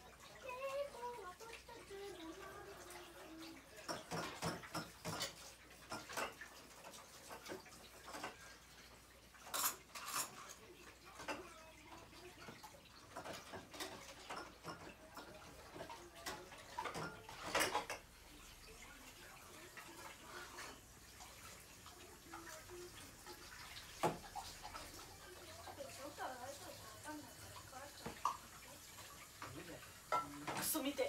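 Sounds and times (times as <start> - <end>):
dishes and cutlery clattering: 2.1 - 26.2, 27.9 - 31.0.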